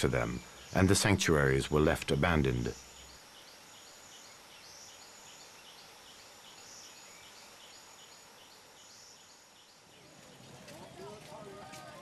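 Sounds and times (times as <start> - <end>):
steady hiss: 0.0 - 10.6
insects chirping: 0.0 - 11.2.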